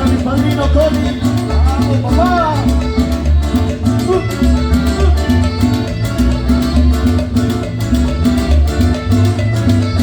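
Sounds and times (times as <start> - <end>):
latin dance band playing: 0.0 - 10.0.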